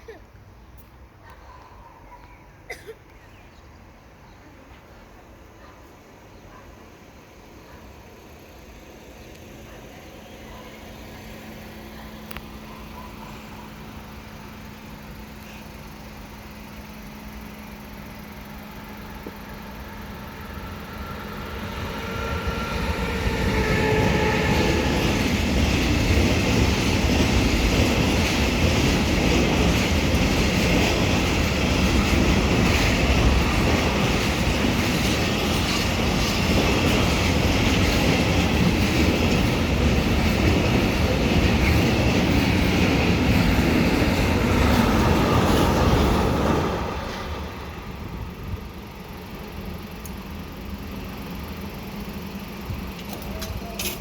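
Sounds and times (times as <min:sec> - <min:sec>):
freight train passing: 0:00.0 - 0:54.0
train whine: 0:03.7 - 0:54.0
wheels clattering on rails: 0:09.4 - 0:54.0.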